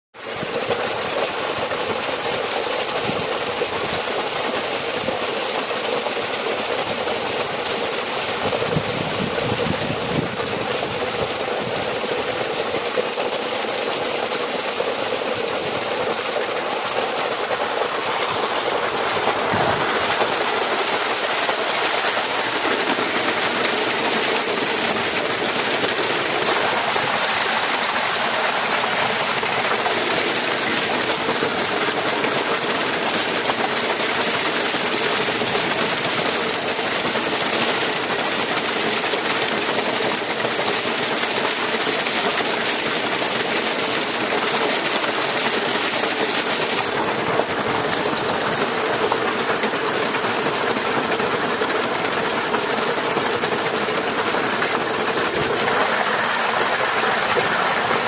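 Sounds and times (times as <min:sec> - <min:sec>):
flowing water rushing: 0:00.2 - 0:58.0.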